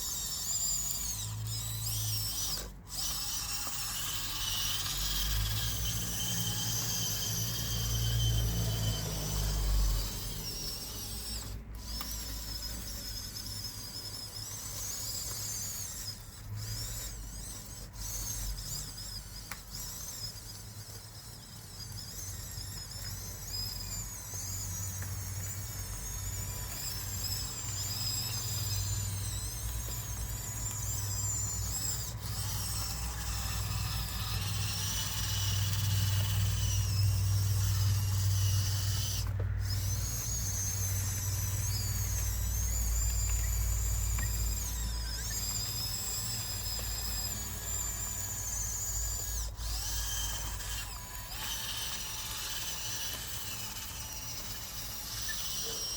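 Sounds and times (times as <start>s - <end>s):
electric motors whining: 0.0s - 55.9s.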